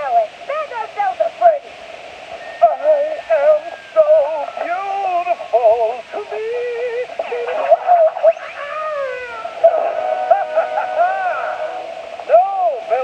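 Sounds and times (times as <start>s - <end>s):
processed warbling voice: 2.4s - 13.0s.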